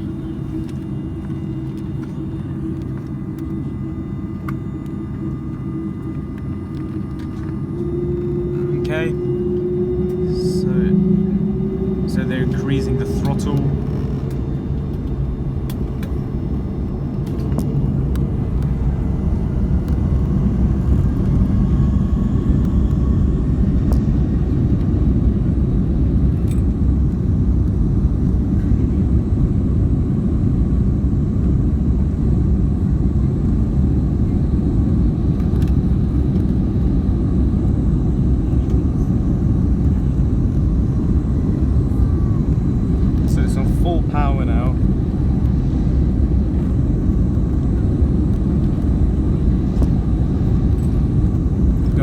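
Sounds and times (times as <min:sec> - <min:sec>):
faint rising engine whine: 0:00.0 - 0:52.0
jet engines low rumble: 0:00.0 - 0:52.0.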